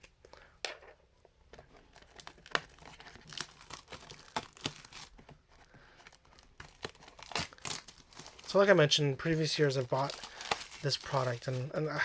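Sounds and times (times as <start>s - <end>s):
plastic shrink-wrap crinkling and tearing: 1.8s - 12.0s.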